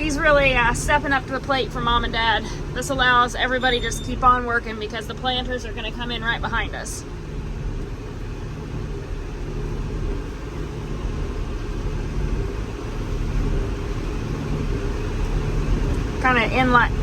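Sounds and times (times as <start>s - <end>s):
tractor and baler low rumble: 0.0s - 17.0s.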